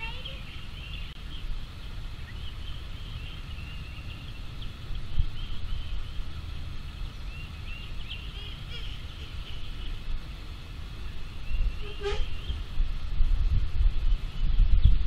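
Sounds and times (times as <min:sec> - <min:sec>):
small birds chirping: 0:00.0 - 0:12.9
steady low rumble: 0:00.0 - 0:15.0.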